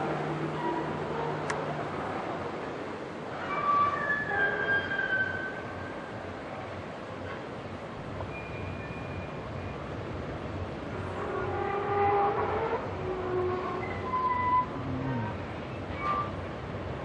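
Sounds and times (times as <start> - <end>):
outdoor background din: 0.0 - 17.0.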